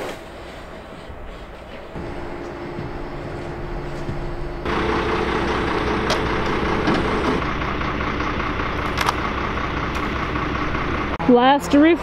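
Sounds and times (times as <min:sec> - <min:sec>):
truck engine idling: 0:01.9 - 0:12.0.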